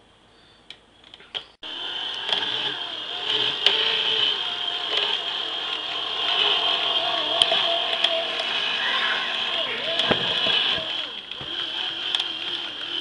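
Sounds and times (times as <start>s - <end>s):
electric can opener motor whining: 1.6s - 13.0s.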